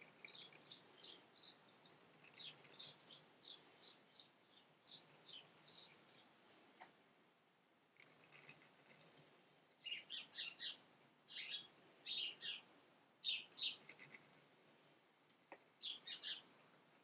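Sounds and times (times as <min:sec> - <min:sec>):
small bird chirping: 0:00.0 - 0:07.4, 0:08.0 - 0:14.4, 0:15.6 - 0:17.0.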